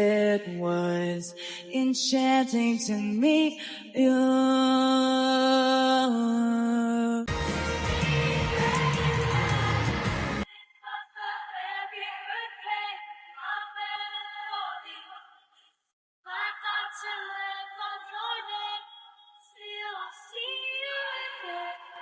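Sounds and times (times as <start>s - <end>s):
woman singing harmonies: 0.0s - 15.4s, 16.3s - 22.0s.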